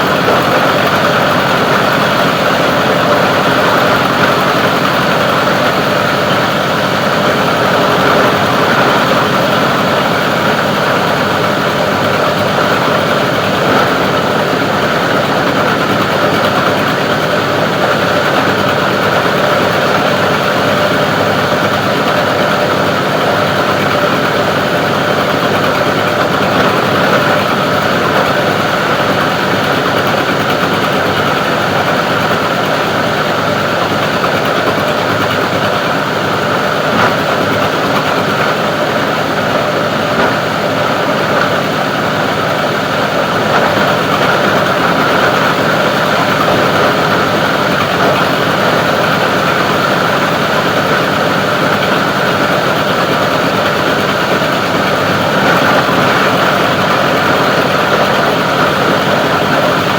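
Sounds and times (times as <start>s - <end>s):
grinder machine running: 0.0s - 59.9s.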